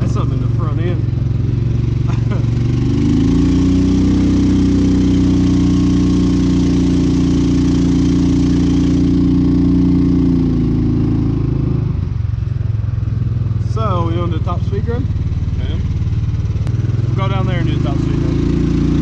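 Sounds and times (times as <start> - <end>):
small gas engine running: 0.0 - 19.0.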